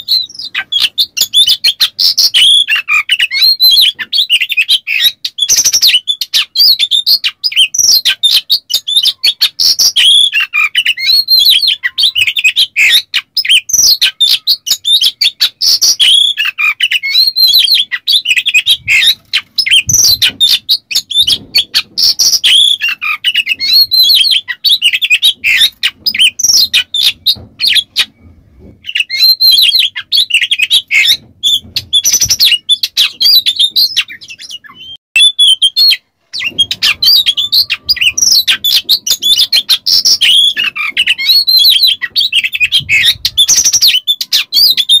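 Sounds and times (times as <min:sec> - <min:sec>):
bird singing whistled notes: 0:00.0 - 0:28.1, 0:28.8 - 0:45.0.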